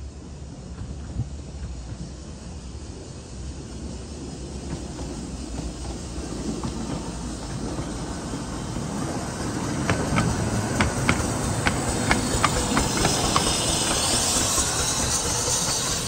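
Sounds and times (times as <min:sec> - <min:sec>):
steam train low rumble: 0:00.0 - 0:16.0.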